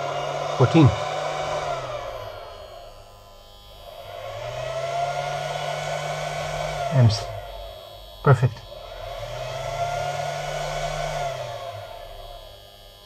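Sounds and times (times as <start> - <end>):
electric whir of charge controller: 0.0 - 13.0.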